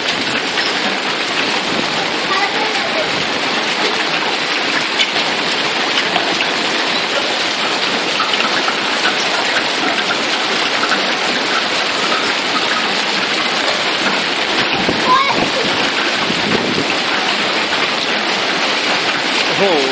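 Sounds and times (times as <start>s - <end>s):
heavy rain falling: 0.0s - 19.9s
raindrops ticking: 0.0s - 19.9s.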